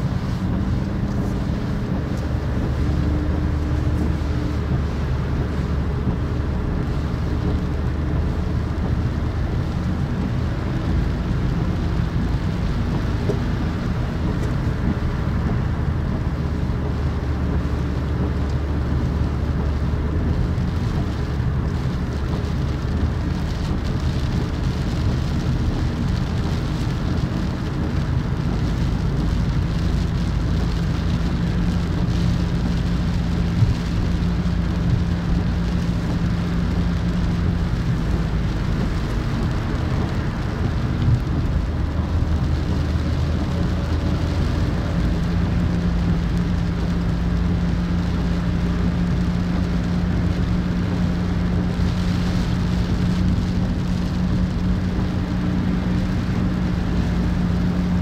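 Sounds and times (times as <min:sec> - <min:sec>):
low engine hum: 0:00.0 - 0:58.0
tyres hissing on wet road: 0:00.0 - 0:58.0.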